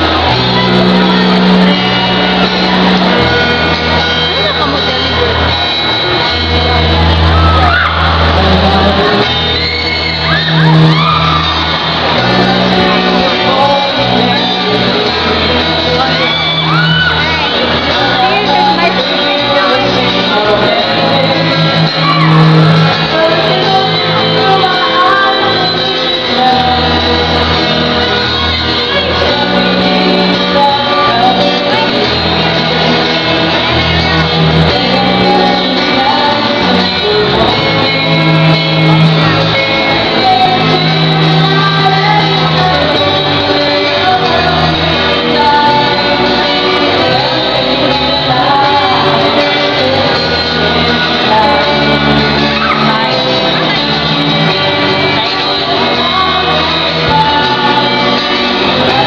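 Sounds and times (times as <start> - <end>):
electric bass long low notes: 0.0 - 59.0
strummed acoustic guitars: 0.0 - 59.0
vocalists singing: 0.0 - 59.0.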